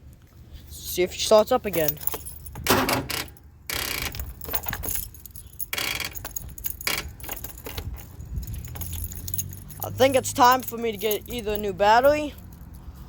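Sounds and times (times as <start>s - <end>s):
keys jangling in ignition: 1.5s - 13.0s.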